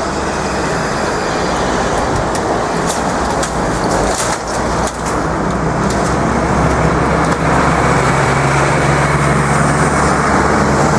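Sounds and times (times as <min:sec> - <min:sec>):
cars driving past: 0:00.0 - 0:10.9
heavy vehicle engine hum: 0:00.0 - 0:10.9.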